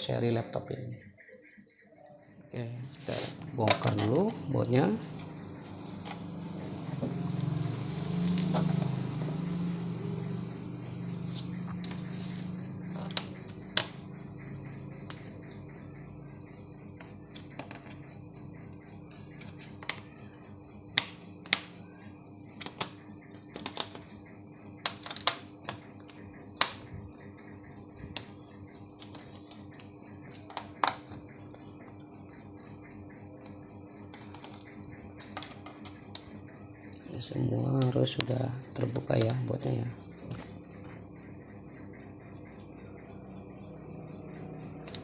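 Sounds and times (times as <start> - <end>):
faint hum: 0.0 - 45.0.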